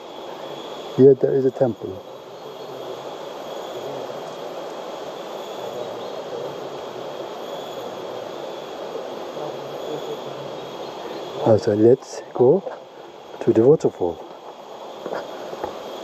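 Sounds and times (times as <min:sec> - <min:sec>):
faint thin high whine: 0:00.0 - 0:16.0.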